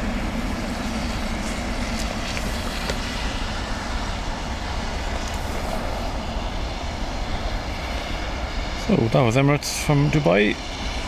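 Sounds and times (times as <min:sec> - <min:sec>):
jet engines rumbling at taxi: 0:00.0 - 0:11.0.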